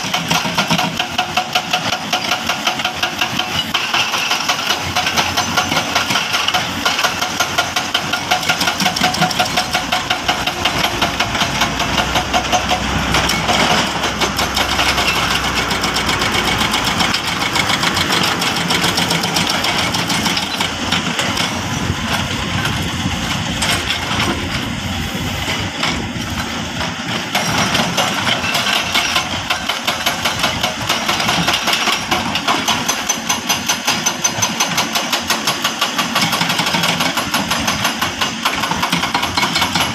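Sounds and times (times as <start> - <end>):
heavy diesel machine running: 0.0 - 39.9.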